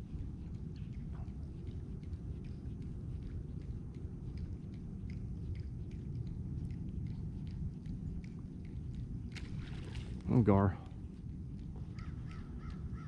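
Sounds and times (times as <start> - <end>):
faint irregular ticks: 0.0 - 13.0
steady low rumble: 0.0 - 13.0.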